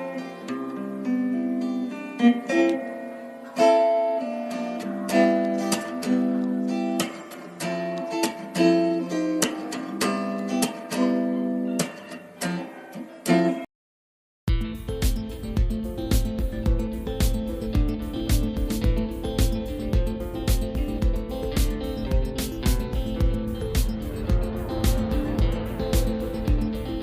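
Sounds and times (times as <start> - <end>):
plucked acoustic guitar: 0.0 - 13.7, 14.5 - 27.0.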